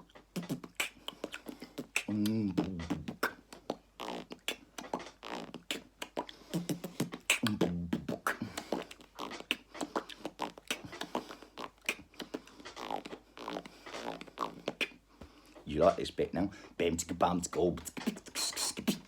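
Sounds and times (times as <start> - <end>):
man beatboxing: 0.0 - 15.0, 15.6 - 19.0.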